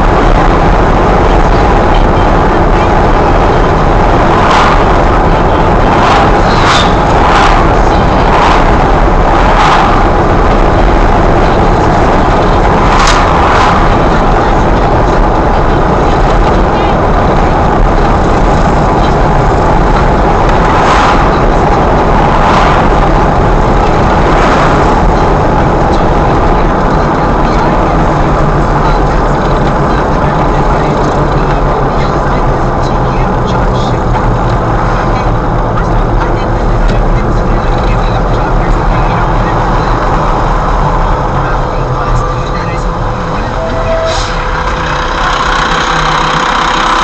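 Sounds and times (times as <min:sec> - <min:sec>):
passing cars whooshing: 0:00.0 - 0:47.0
road and wind noise: 0:00.0 - 0:47.0.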